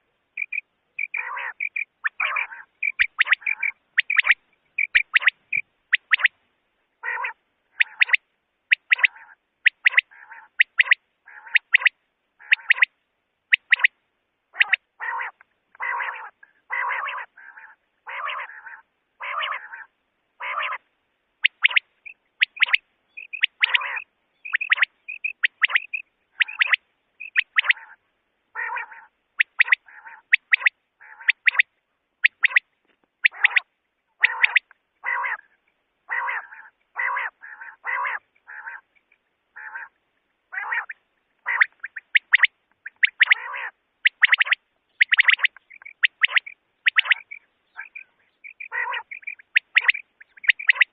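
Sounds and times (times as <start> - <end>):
quail calling: 0.0 - 6.4, 7.0 - 50.9.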